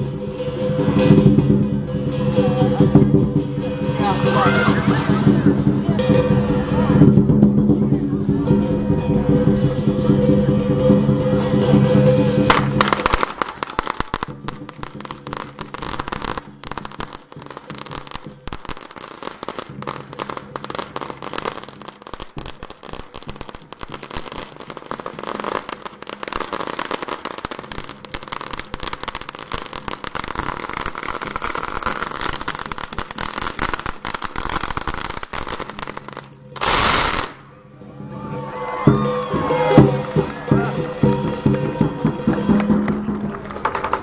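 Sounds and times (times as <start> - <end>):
firecrackers crackling: 0.0 - 37.6, 39.7 - 44.0.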